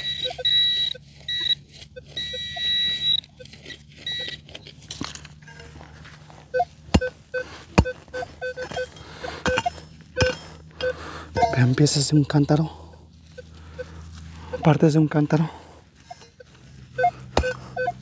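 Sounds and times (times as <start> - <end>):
metal detector beeps: 0.0 - 18.0.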